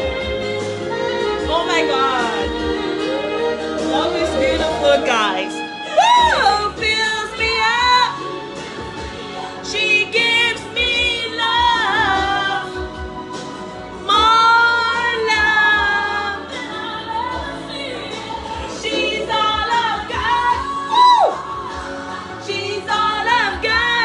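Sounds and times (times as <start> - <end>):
woman singing: 0.0 - 8.7, 9.5 - 13.4, 14.0 - 24.0.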